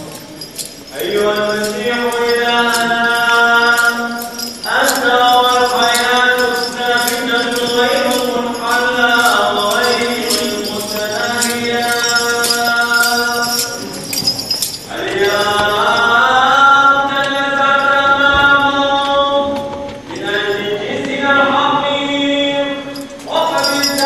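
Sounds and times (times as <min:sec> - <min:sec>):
high regular ticking: 0:00.0 - 0:18.3, 0:23.0 - 0:24.0
voices chanting a hymn: 0:00.0 - 0:24.0.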